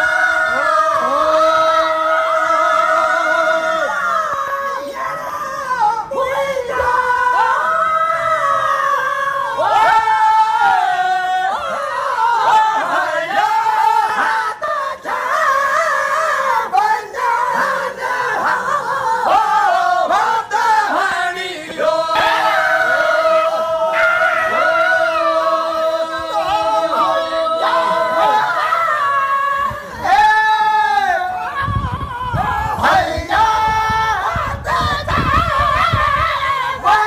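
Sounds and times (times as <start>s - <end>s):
men chanting unaccompanied: 0.0s - 37.0s.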